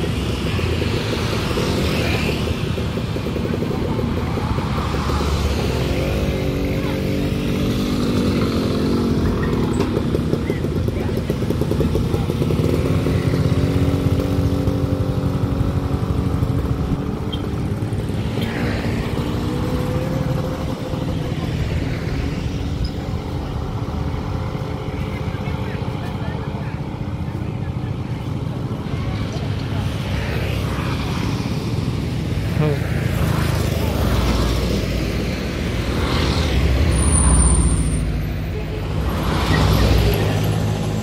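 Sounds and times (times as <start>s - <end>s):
motorcycle engines running: 0.0s - 41.0s
scooters idling and riding past: 0.0s - 41.0s.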